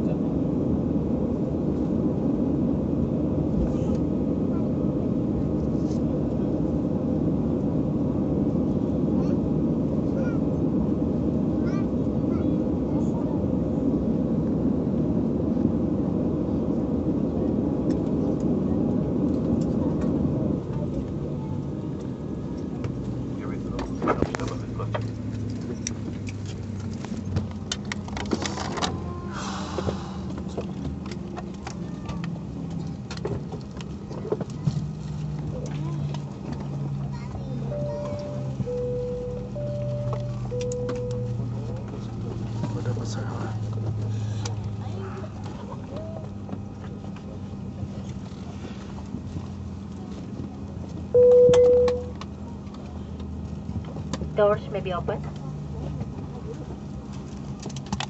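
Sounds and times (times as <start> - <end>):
aircraft systems low hum: 0.0 - 58.0
airliner cabin rumble: 0.0 - 58.0
faint passenger voices: 0.0 - 58.0.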